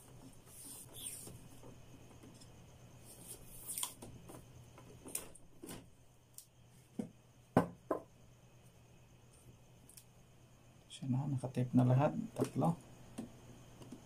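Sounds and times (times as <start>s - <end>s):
faint steady low hum: 0.0s - 14.0s.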